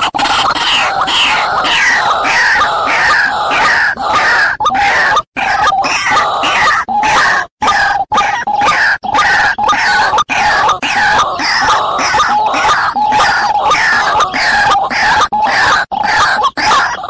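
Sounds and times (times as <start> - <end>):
waterhen harsh calls: 0.0 - 17.0.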